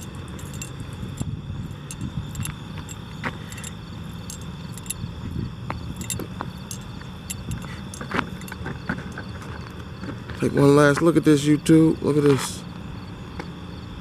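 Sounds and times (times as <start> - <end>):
high insect chirring: 0.0 - 14.0.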